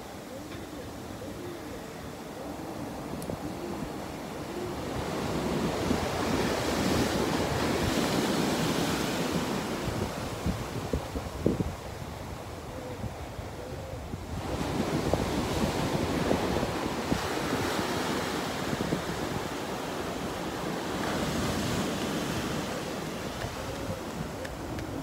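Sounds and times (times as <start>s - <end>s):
ocean surf breaking on beach: 0.0s - 25.0s
wind buffeting microphone: 2.2s - 25.0s.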